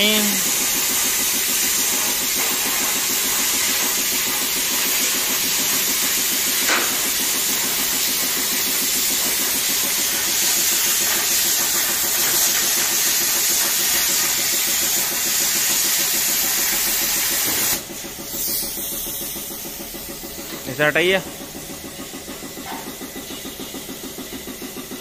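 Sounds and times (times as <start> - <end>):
plasma cutter hissing: 0.0 - 21.2.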